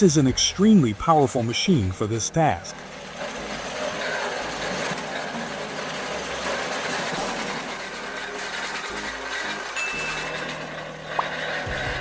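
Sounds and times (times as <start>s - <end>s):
tractor engine running: 0.0s - 12.0s
saw blade turning over: 0.1s - 12.0s.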